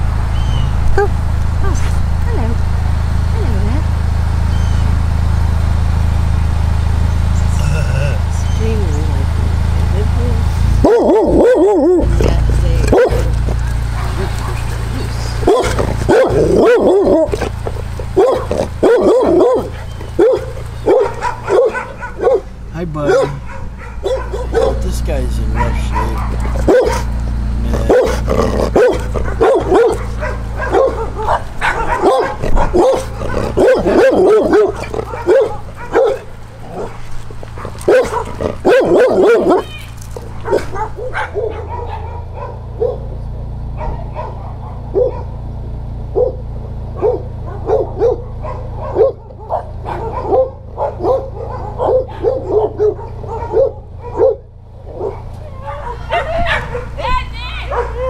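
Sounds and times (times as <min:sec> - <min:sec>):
dogs barking: 0:00.0 - 0:02.5, 0:08.2 - 0:58.0
low vehicle engine hum: 0:00.0 - 0:58.0.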